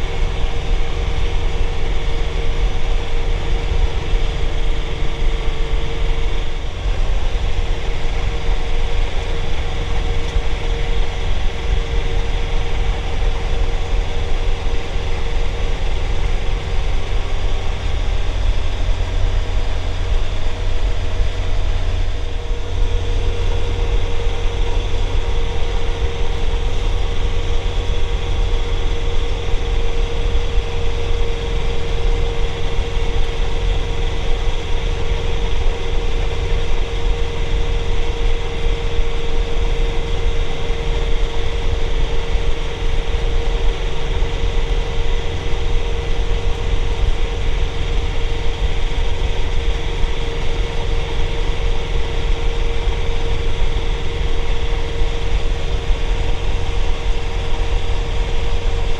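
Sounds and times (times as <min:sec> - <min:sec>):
diesel tractor engine rumble: 0:00.0 - 0:58.9.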